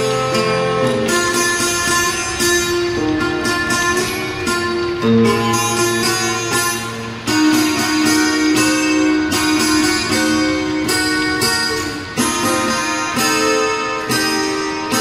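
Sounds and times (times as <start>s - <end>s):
guitar plucked notes and chords: 0.0s - 15.0s.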